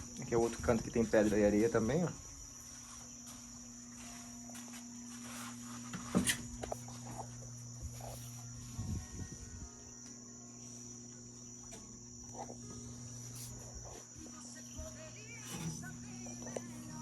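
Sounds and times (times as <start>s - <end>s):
crickets chirring: 0.0s - 17.0s
low steady hum: 0.0s - 17.0s.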